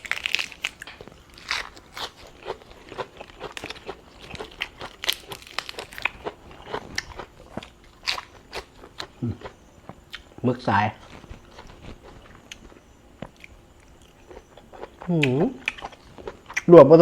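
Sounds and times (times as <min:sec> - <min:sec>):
person chewing and crunching food: 0:00.0 - 0:16.9.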